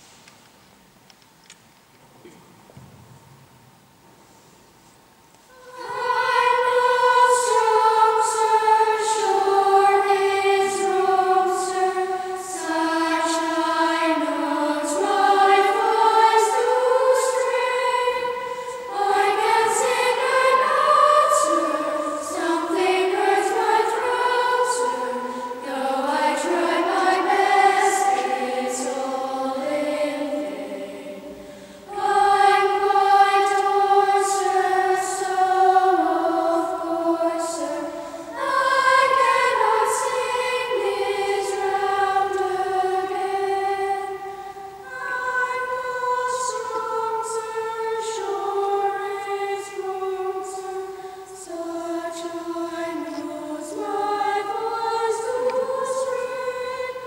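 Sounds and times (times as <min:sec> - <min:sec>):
children's choir singing: 0:05.5 - 0:57.0.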